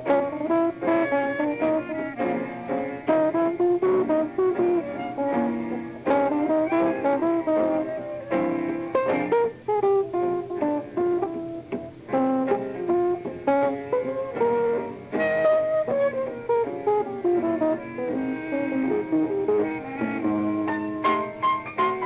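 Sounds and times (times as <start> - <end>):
guitar plucking quick notes: 0.0 - 22.0
live jazz trio: 0.0 - 22.0.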